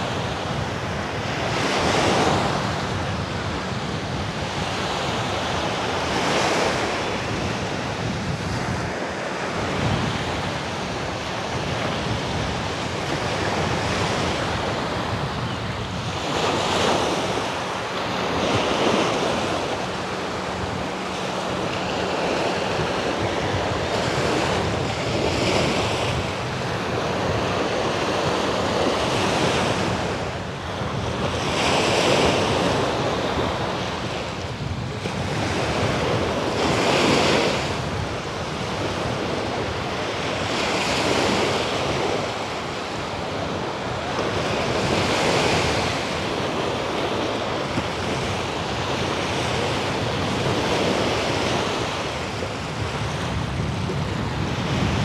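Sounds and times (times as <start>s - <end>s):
surf breaking on beach: 0.0s - 55.0s
wind buffeting microphone: 0.0s - 55.0s.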